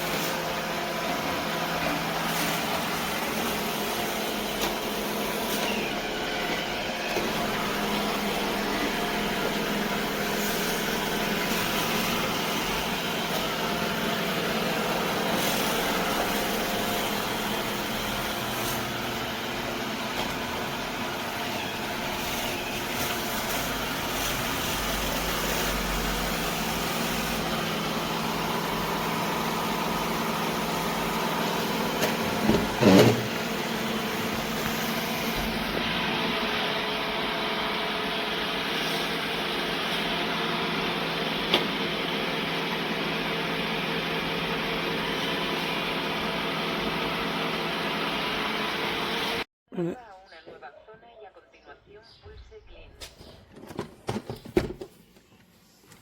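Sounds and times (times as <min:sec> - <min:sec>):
robot vacuum motor hum: 0:00.0 - 0:48.7.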